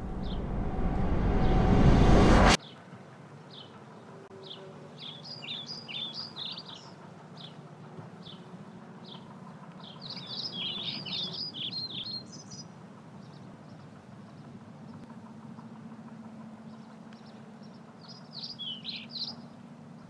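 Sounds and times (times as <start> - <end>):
rapid twittering birdsong: 2.6 - 20.0
songbirds chirping: 2.6 - 20.0.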